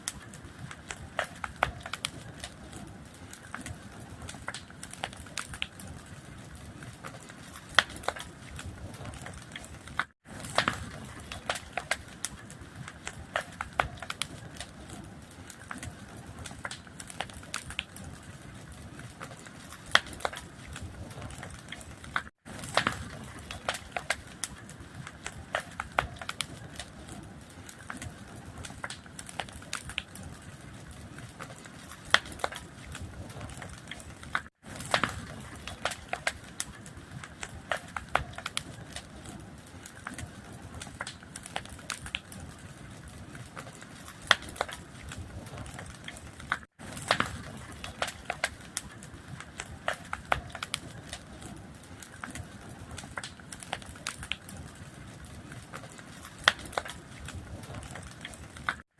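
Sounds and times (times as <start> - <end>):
fire crackling: 0.0 - 58.9
sharp pops and snaps: 3.3 - 5.8, 7.0 - 14.9, 15.5 - 18.0, 19.2 - 27.1, 27.7 - 30.2, 31.4 - 42.4, 43.3 - 54.6, 55.3 - 58.9.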